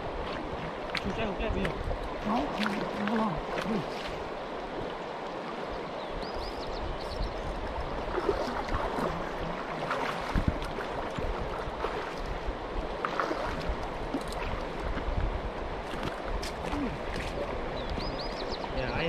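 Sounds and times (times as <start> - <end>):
creek water flowing over stones: 0.0 - 19.0
small water splashes: 0.0 - 19.0.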